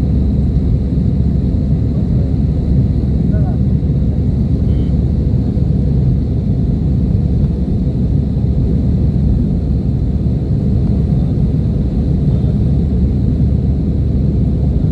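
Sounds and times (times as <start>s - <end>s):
airliner engines rumbling: 0.0s - 14.9s.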